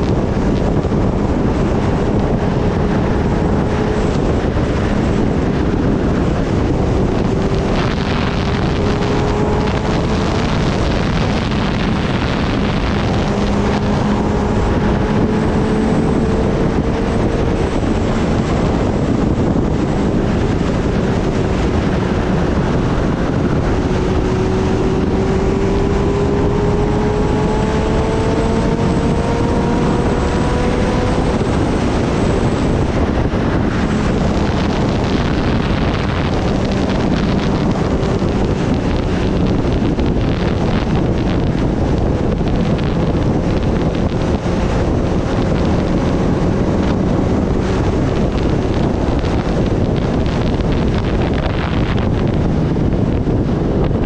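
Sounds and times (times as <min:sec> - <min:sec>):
motorcycle engine: 0:00.0 - 0:54.0
wind rush over microphone: 0:00.0 - 0:54.0.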